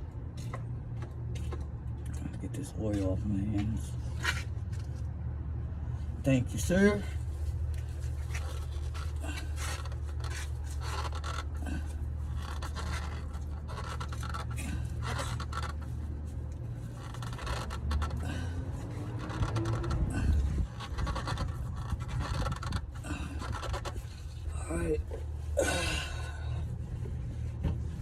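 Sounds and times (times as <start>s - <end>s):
steady low hum: 0.0s - 28.0s
scraping handling noises: 0.3s - 5.1s, 5.8s - 28.0s.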